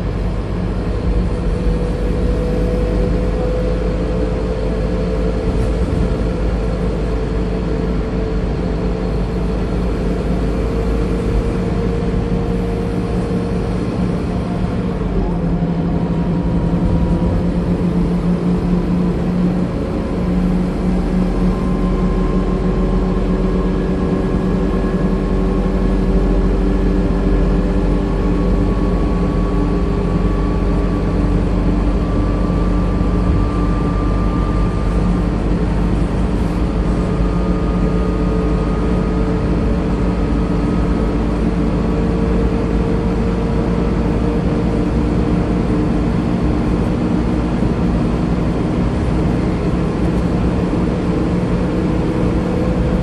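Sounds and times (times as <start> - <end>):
bus engine droning: 0.0 - 53.0.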